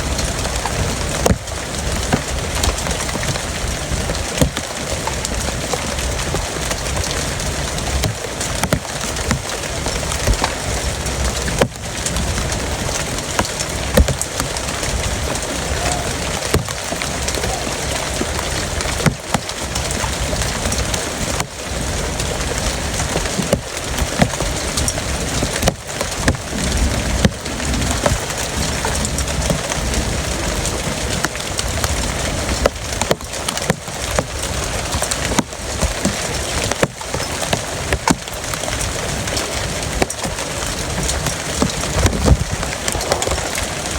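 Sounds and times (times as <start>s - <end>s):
heavy rain falling: 0.0s - 43.9s
raindrops tapping a surface: 0.0s - 43.9s.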